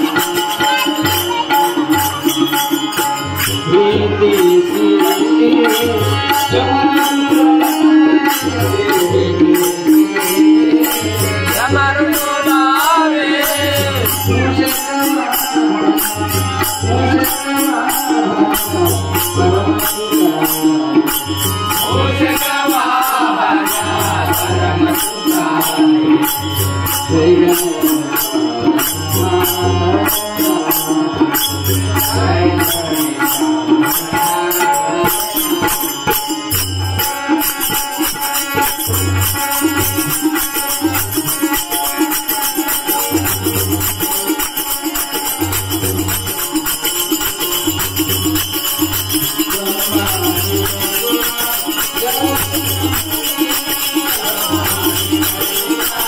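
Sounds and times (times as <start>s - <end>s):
hand cymbals jingling: 0.0s - 56.0s
harmonium melody: 0.0s - 56.0s
tabla drumming: 0.0s - 56.0s.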